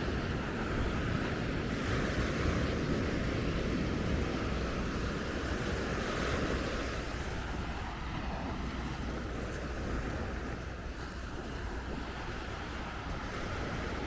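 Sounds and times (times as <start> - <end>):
ocean surf washing on beach: 0.0 - 14.0
wind buffeting microphone: 0.0 - 14.0.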